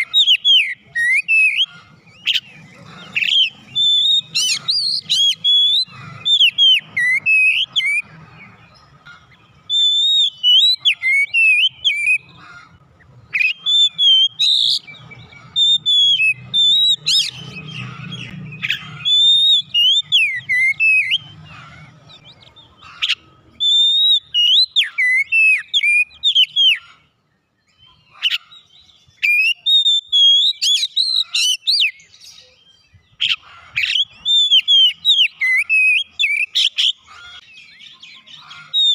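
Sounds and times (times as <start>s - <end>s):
songbird whistling and warbling: 0.0s - 27.0s, 27.6s - 38.9s.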